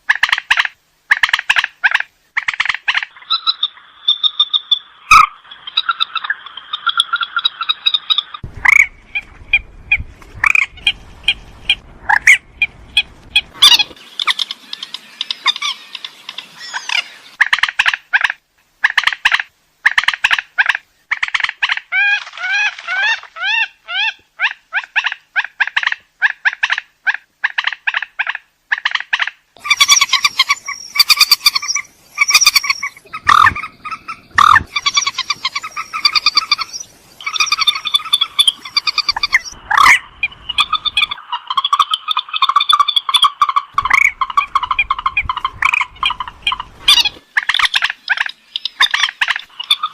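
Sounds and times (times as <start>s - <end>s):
swamphen clucking and squawking: 0.1s - 49.9s.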